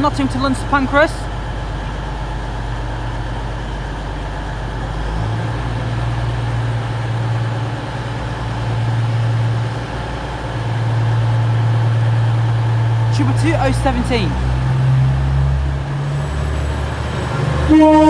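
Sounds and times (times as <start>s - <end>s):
diesel train engines droning: 0.0s - 18.0s.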